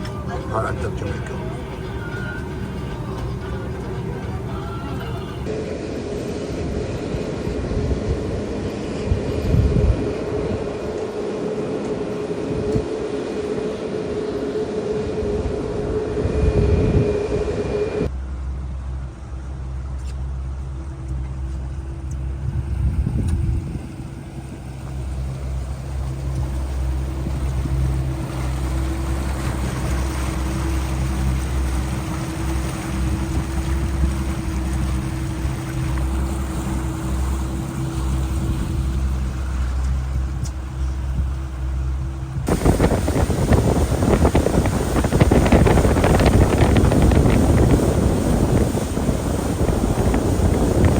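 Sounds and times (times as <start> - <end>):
airliner cabin drone: 0.0 - 50.9
boat engine rumbling: 0.0 - 50.9.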